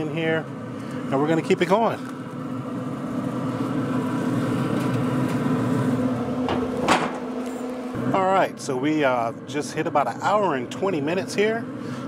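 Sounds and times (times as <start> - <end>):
grill fan whirring hum: 0.0 - 12.0.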